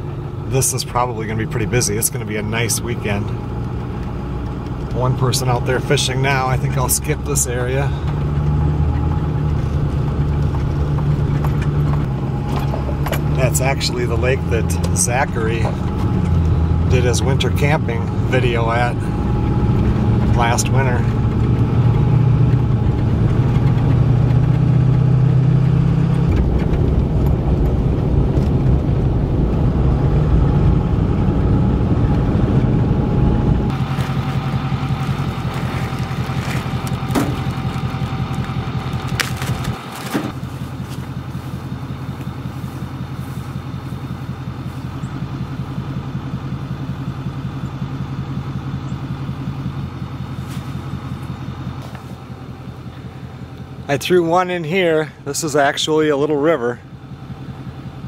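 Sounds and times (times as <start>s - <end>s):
truck engine and road rumble: 0.0s - 58.0s
truck engine idling hum: 0.0s - 58.0s.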